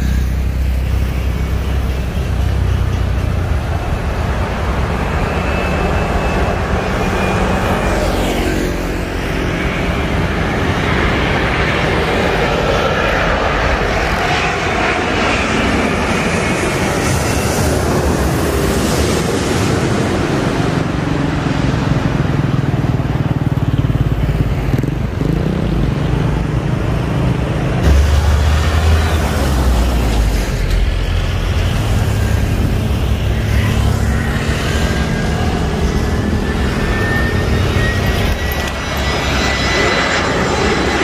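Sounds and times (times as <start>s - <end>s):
jet airliner passing overhead: 0.0s - 41.0s
road traffic noise: 0.0s - 41.0s.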